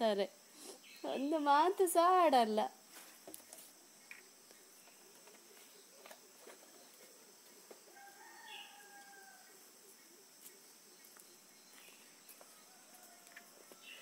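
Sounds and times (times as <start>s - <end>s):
faint high insect hum: 0.0s - 14.0s.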